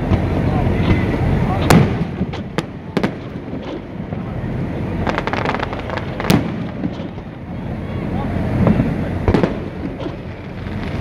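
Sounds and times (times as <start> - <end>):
continuous low rumble: 0.0 - 11.0
fireworks crackling and banging: 0.0 - 11.0.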